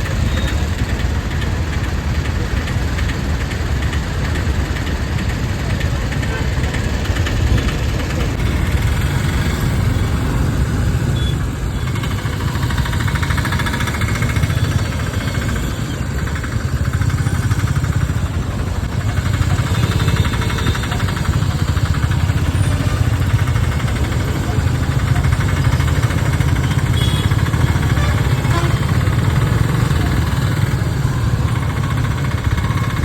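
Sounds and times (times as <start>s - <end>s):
motorbike engine rumbling: 0.0s - 33.0s
road noise: 0.0s - 33.0s
traffic noise: 0.0s - 33.0s.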